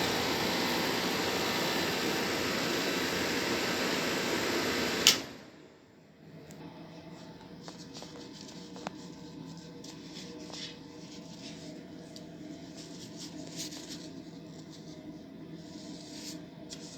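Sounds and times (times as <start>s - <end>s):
air conditioner humming: 0.0s - 16.9s.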